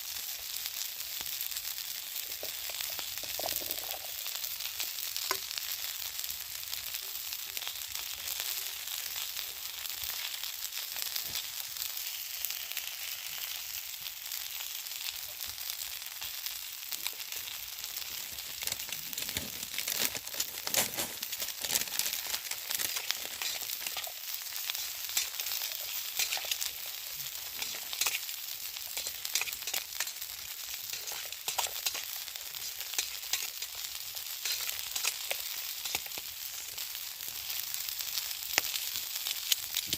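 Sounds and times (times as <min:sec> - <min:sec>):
fire crackles and pops: 0:00.0 - 0:39.9
food sizzling over fire: 0:00.0 - 0:39.9.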